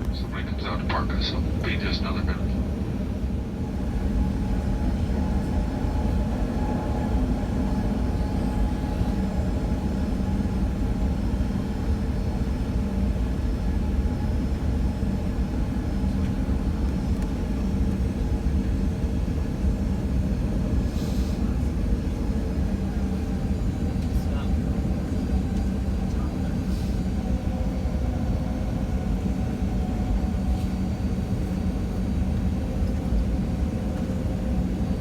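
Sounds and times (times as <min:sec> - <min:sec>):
jet engines idling: 0:00.0 - 0:35.0.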